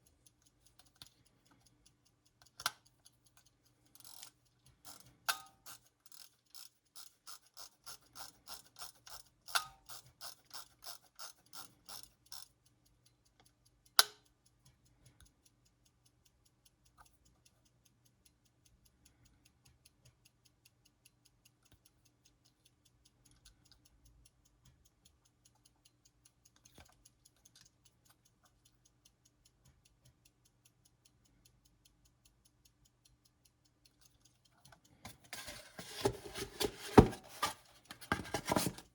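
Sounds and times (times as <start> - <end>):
coarse rhythmic clicking: 0.0 - 35.6
clock mechanism ticking: 0.0 - 38.9.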